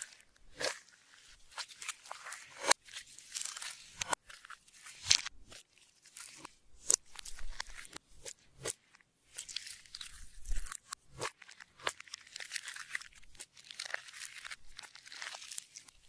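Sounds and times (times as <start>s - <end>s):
slime squishing: 0.0s - 16.0s.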